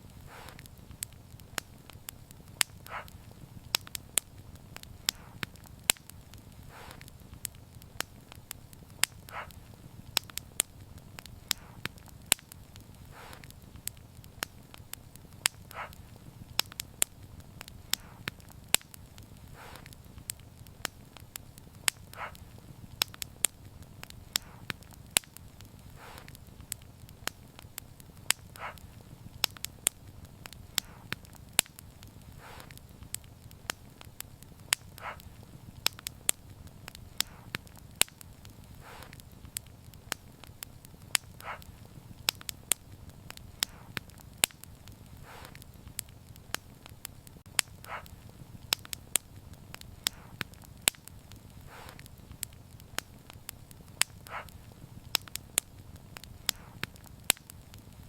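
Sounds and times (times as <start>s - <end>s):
rumble of burning flames: 0.0s - 58.0s
wood fire crackling: 0.0s - 58.0s.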